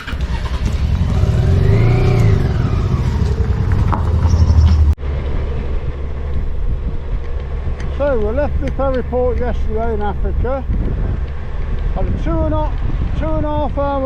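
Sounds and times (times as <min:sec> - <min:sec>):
motorcycle engine: 0:00.0 - 0:13.7
road rumble: 0:00.0 - 0:14.0.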